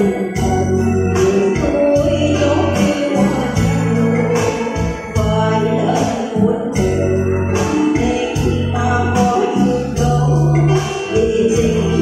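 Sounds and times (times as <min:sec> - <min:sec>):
electronic keyboard bass notes: 0:00.0 - 0:12.0
woman singing into a microphone: 0:00.0 - 0:12.0.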